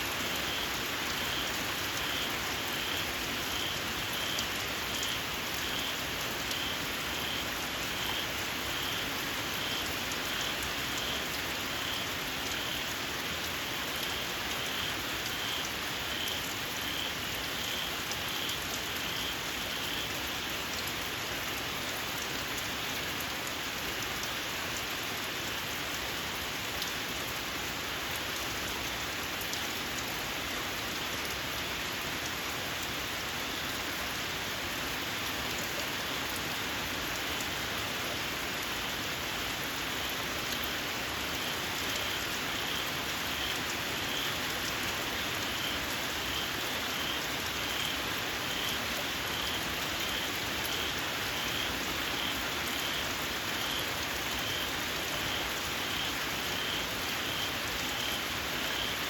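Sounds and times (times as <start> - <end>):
rain falling on ground: 0.0 - 59.0.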